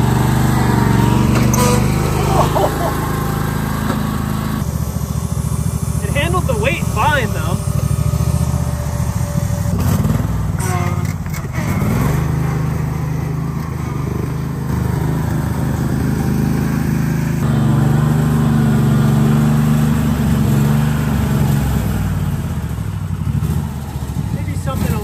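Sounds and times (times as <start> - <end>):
riding lawn mower engine running: 0.0 - 25.0.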